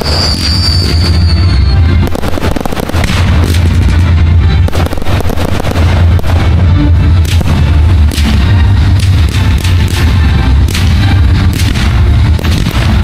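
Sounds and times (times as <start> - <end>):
continuous low rumble: 0.0 - 13.0
fireworks bangs and booms: 0.0 - 13.0
music: 0.0 - 13.0.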